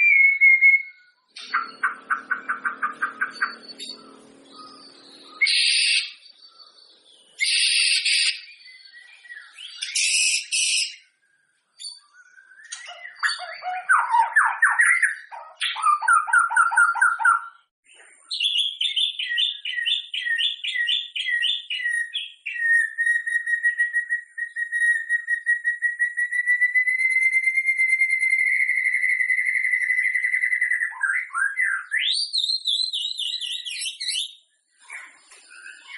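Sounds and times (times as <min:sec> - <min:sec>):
bird singing varied song: 0:00.0 - 0:35.9.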